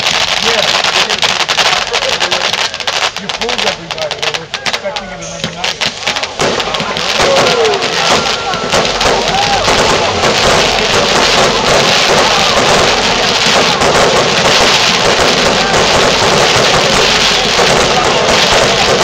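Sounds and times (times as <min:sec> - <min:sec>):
firework fountains hissing and crackling: 0:00.0 - 0:19.0.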